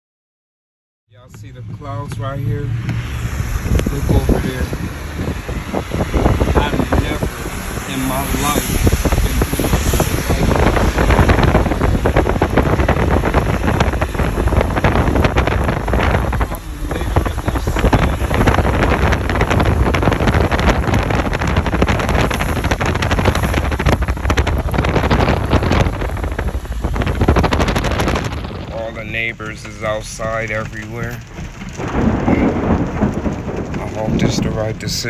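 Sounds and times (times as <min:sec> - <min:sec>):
storm wind gusting on microphone: 0:01.2 - 0:35.0.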